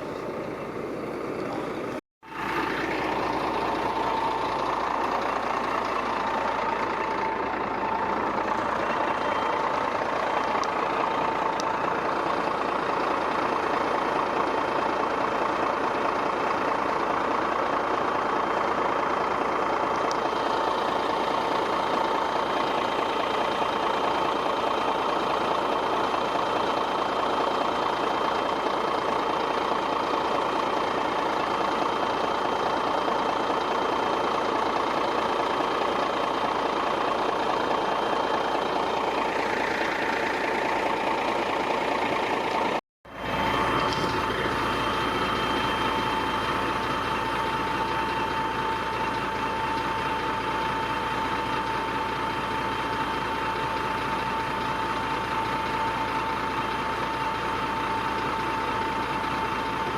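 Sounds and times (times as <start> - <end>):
constant high tone: 0.0 - 59.9
diesel engine running: 0.0 - 59.9.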